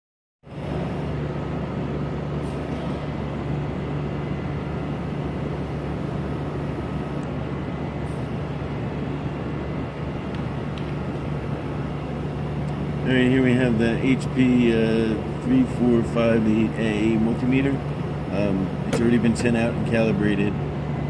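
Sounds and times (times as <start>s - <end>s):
cooling fans humming: 0.4s - 21.0s.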